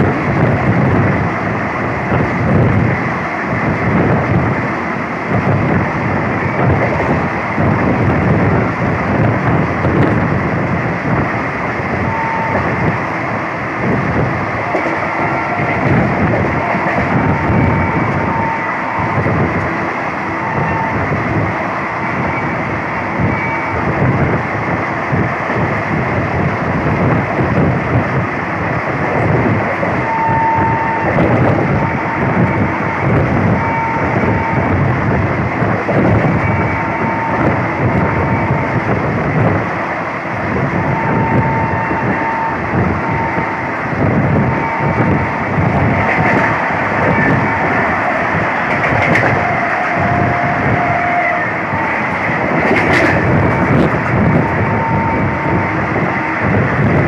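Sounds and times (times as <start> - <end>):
train wheels and wind rumbling: 0.0 - 57.0.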